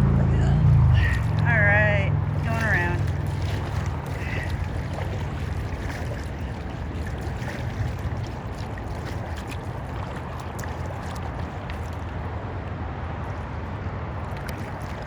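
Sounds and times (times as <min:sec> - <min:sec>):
steady low hum: 0:00.0 - 0:15.0
paddle splashes and drips: 0:00.6 - 0:15.0.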